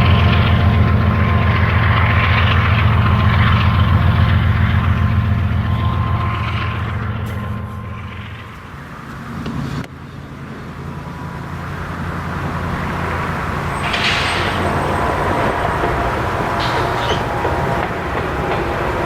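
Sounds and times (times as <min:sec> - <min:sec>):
diesel locomotive engines droning: 0:00.0 - 0:19.0.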